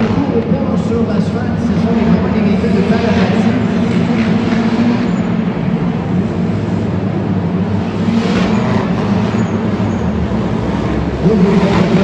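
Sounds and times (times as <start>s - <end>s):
engine revving: 0.0s - 12.0s
race car engines: 0.0s - 12.0s.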